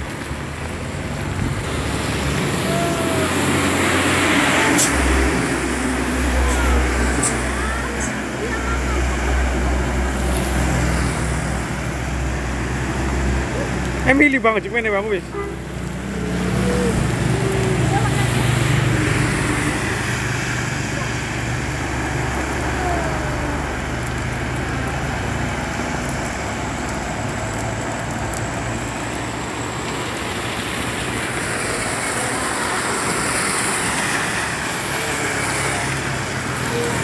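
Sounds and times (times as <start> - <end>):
rain hissing: 0.0 - 37.0
tyres hissing through water: 0.2 - 37.0
truck engine rumbling past: 0.6 - 37.0.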